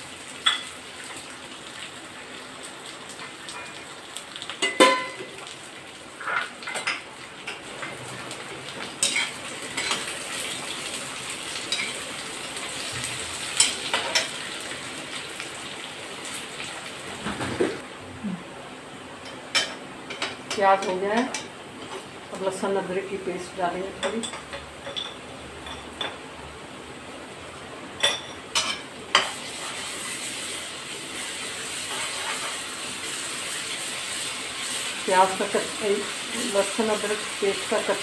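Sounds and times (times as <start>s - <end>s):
onions sizzling in oil: 0.0s - 38.0s.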